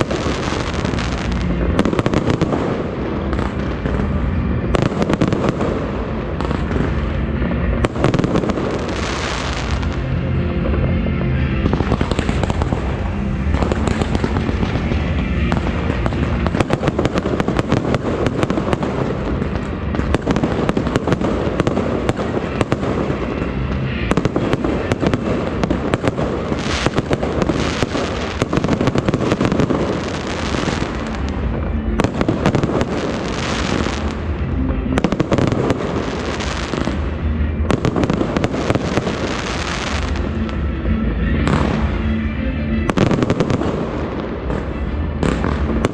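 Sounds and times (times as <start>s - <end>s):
fireworks and firecrackers crackling: 0.0s - 45.9s.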